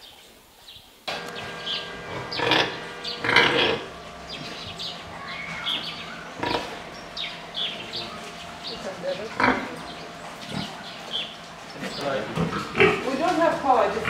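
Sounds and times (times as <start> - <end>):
small birds chirping: 0.0 - 13.2
pigs grunting and squealing: 1.5 - 13.3.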